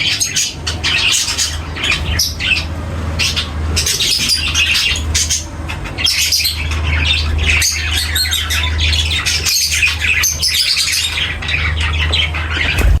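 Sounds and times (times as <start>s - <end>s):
birds chattering and squawking: 0.0s - 13.0s.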